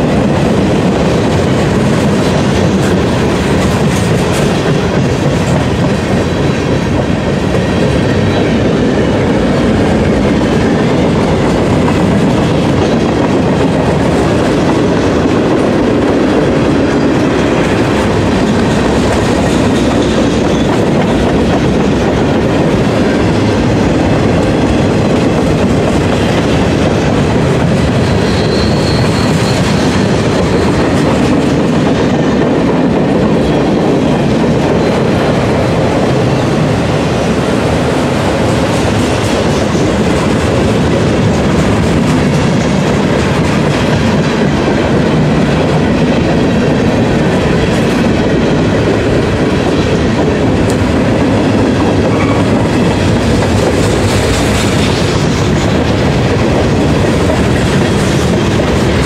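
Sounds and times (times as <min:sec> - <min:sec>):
steel wheels clacking on rails: 0:00.0 - 0:59.0.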